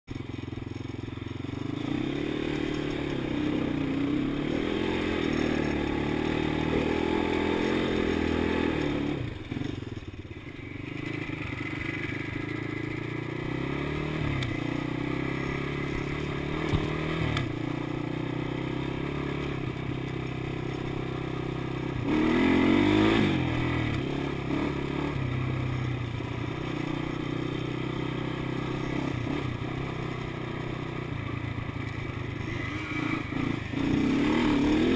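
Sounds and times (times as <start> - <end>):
atv engine revving: 0.1 - 34.9.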